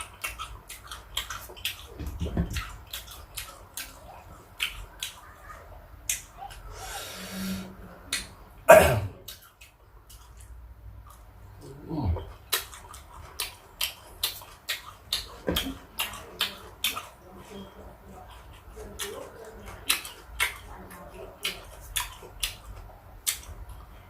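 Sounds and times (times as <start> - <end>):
person chewing crunchy fruit: 0.0 - 5.3, 9.2 - 24.0.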